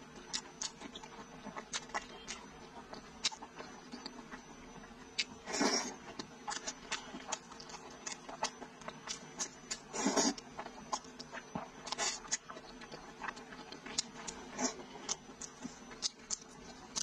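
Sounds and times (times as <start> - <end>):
wet chewing and lip-smacking: 0.1 - 17.0.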